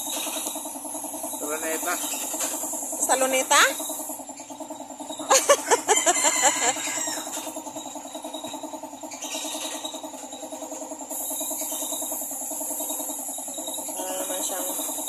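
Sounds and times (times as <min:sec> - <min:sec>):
paint spray gun hissing: 0:00.0 - 0:05.2, 0:06.8 - 0:15.0.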